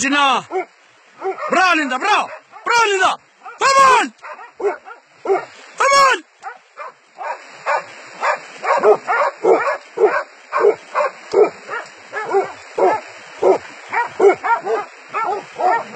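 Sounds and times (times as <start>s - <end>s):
dogs barking: 0.5s - 2.7s, 3.4s - 5.6s, 6.4s - 15.9s.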